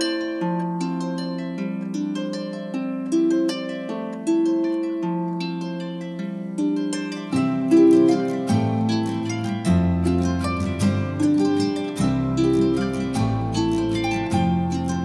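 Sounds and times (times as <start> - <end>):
harp playing slow melody: 0.0 - 15.0.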